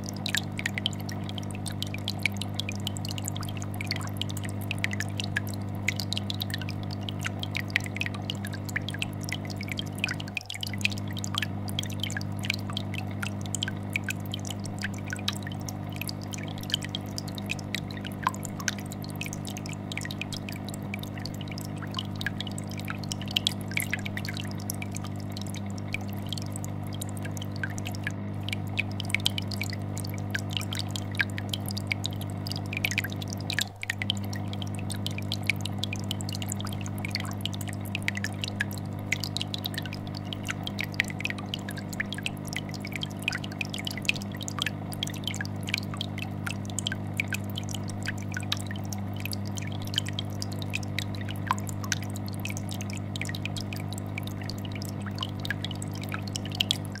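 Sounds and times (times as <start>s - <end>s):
air bubbles popping: 0.0s - 57.0s
fish tank filter hum: 0.0s - 57.0s.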